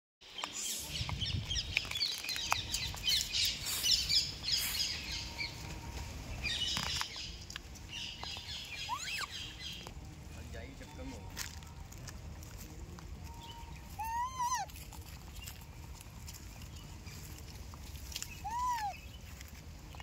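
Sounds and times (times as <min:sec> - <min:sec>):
small birds chirping: 0:00.2 - 0:11.3, 0:13.0 - 0:20.0
low outdoor rumble: 0:02.4 - 0:20.0.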